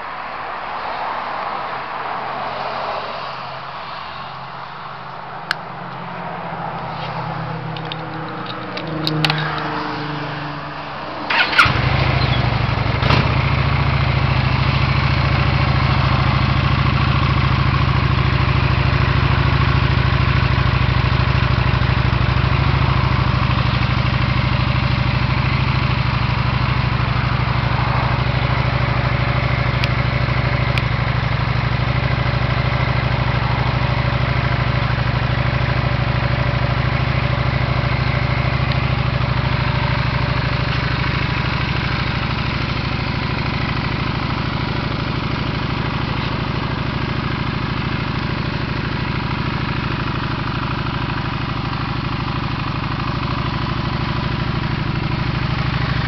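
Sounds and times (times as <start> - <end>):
motorcycle engine starting and idling: 6.9 - 56.0.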